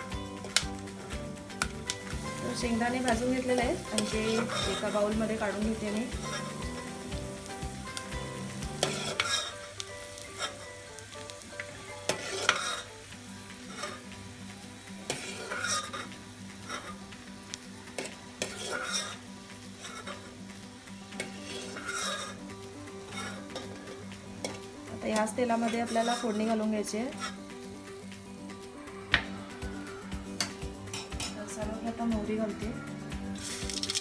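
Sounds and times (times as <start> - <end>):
hot oil sizzling: 0.0 - 34.0.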